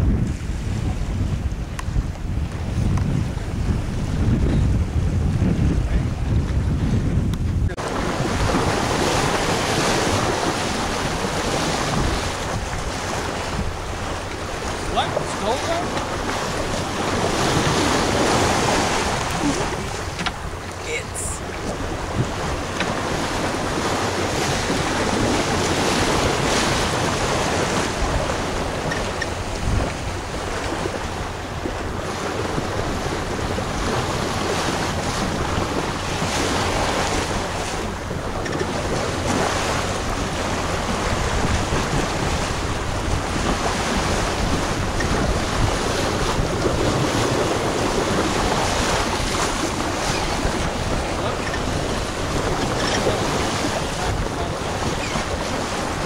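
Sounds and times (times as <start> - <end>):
water rushing along hull: 0.0 - 56.0
wind buffeting microphone: 0.0 - 56.0.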